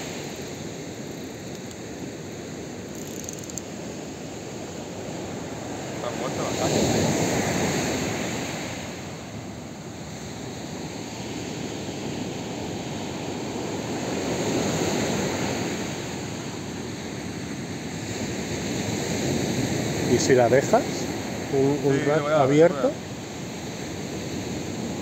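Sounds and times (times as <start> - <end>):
sea surf breaking on beach: 0.0 - 25.0.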